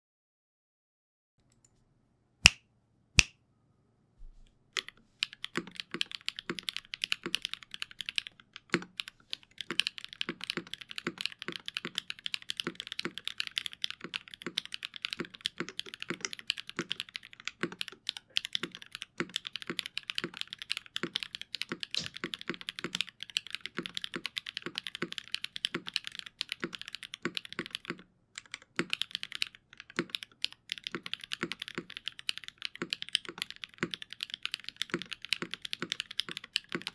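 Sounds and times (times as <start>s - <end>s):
mechanical keyboard typing: 4.8s - 36.9s.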